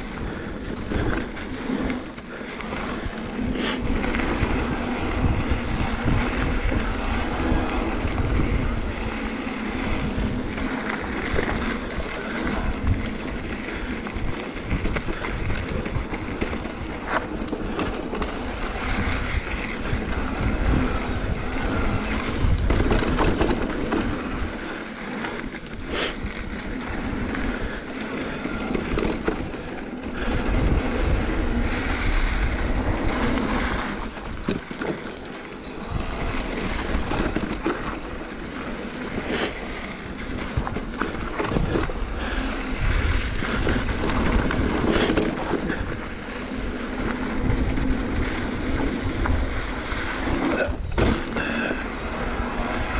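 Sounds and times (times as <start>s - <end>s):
bike clicks and knocks: 0.0s - 52.9s
bike tyres rolling on dirt: 0.0s - 52.9s
wind buffeting microphone: 0.0s - 52.9s.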